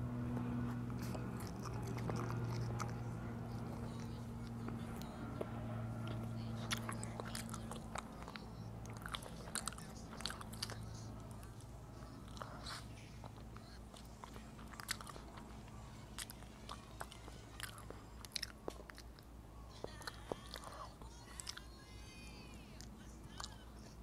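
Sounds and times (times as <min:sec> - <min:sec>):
low steady hum: 0:00.0 - 0:24.0
chewing with wet mouth clicks: 0:00.2 - 0:24.0.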